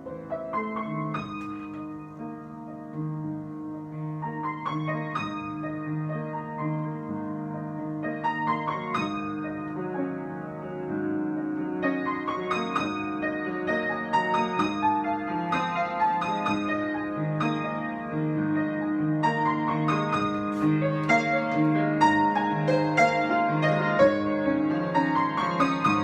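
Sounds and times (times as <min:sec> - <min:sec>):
piano improvisation: 0:00.0 - 0:26.0.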